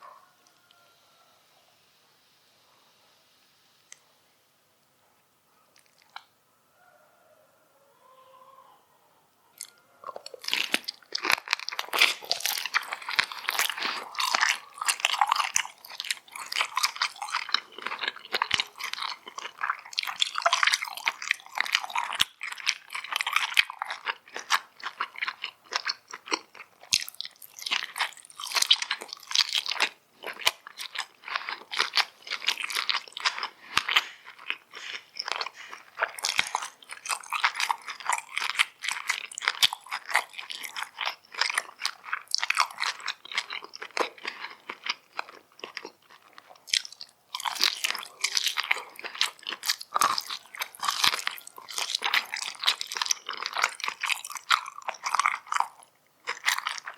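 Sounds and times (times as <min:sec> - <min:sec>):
crunchy chewing: 0:05.7 - 0:06.3, 0:09.6 - 0:56.9.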